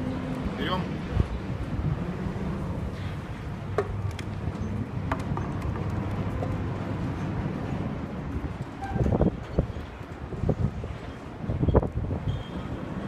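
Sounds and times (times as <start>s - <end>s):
ship machinery hum: 0.0s - 11.7s.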